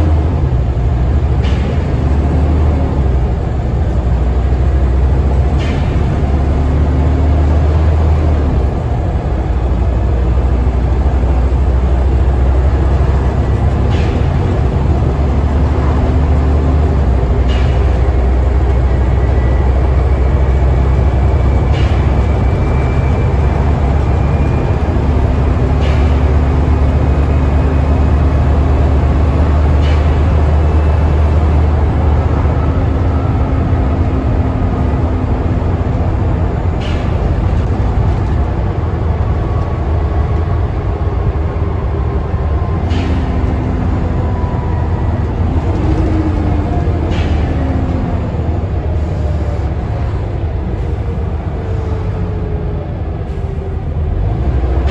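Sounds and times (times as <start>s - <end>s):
bus diesel engine drone: 0.0s - 54.9s
road and body noise: 0.0s - 54.9s.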